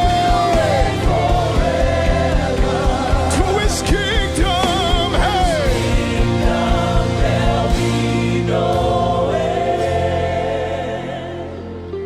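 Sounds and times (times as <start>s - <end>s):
regular drum beat: 0.0s - 10.2s
choir holding sustained notes: 0.0s - 12.0s.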